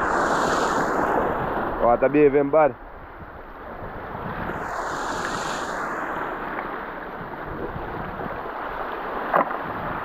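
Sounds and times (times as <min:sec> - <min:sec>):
rough sea water rushing: 0:00.0 - 0:10.0.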